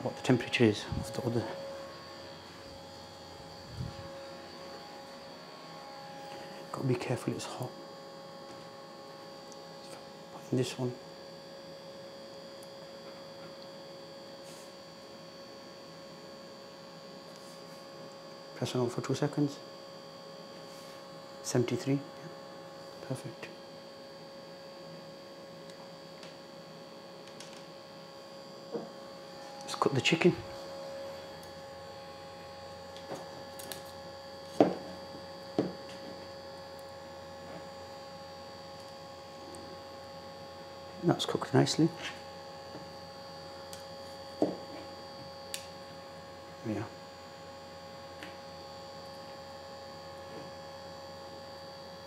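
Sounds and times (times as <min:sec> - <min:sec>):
steady electrical hum: 0:00.0 - 0:52.0.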